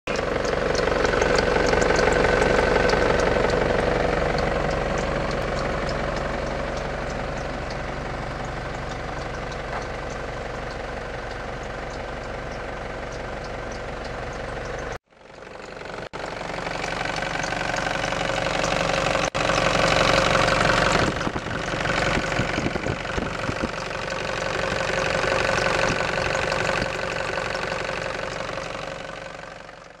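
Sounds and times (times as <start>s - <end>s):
diesel engine running: 0.1s - 30.0s
repetitive engine ticking: 0.1s - 30.0s.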